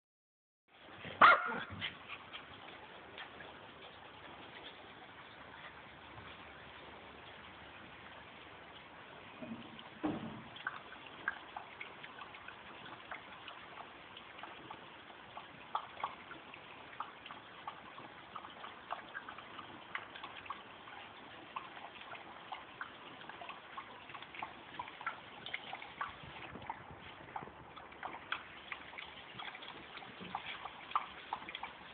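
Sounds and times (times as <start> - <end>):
dog lapping water from bowl: 0.8 - 31.9.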